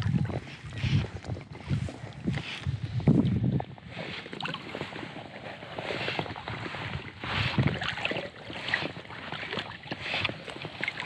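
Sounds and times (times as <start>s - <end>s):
water sloshing and splashing: 0.0s - 11.0s
wind buffeting microphone: 0.0s - 11.0s.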